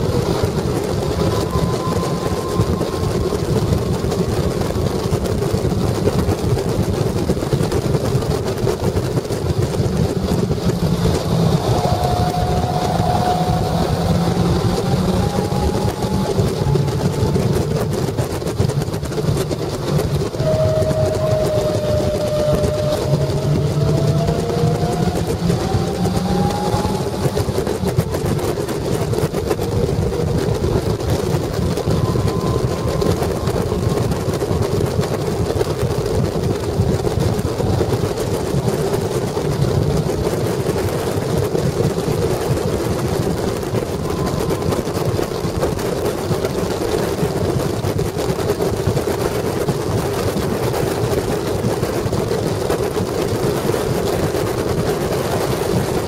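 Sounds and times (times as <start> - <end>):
car engine running under load: 0.0 - 56.0
wind rushing over microphone: 0.0 - 56.0.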